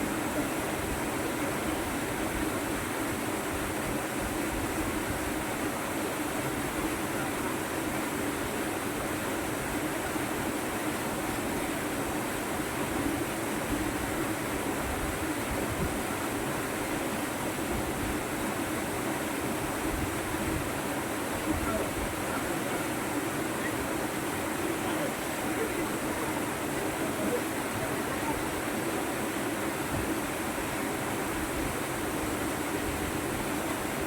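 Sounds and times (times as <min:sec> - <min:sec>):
rushing water roar: 0:00.0 - 0:34.0.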